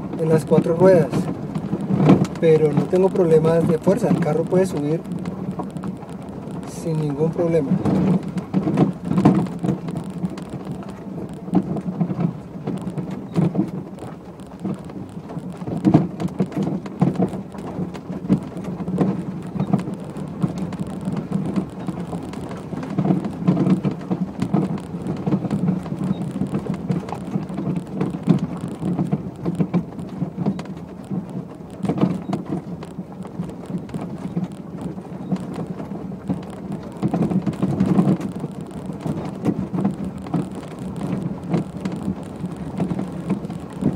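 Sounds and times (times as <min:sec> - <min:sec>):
car cabin low rumble: 0:00.0 - 0:43.9
suspension knocks and rattles: 0:00.0 - 0:43.9.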